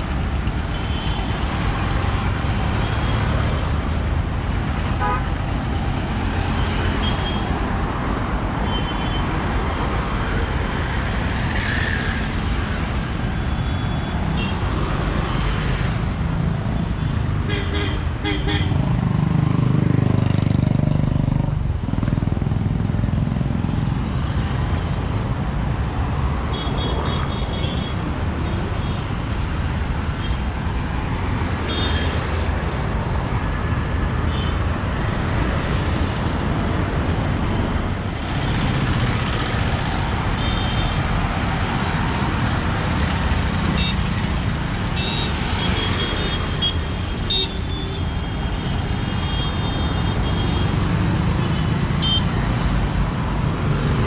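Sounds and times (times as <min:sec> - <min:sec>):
city traffic driving past: 0:00.0 - 0:54.0.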